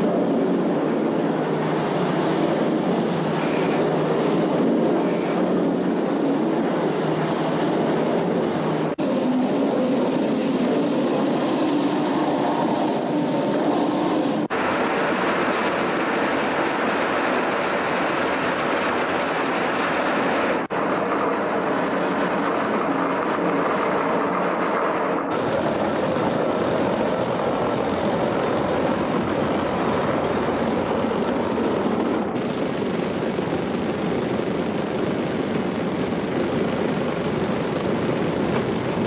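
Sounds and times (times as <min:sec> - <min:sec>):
tram wheels rumbling on rails: 0:00.0 - 0:39.0.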